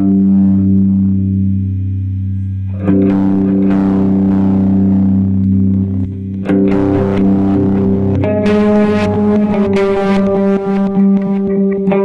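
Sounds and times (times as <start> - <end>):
electric guitar ringing chords: 0.0 - 12.0.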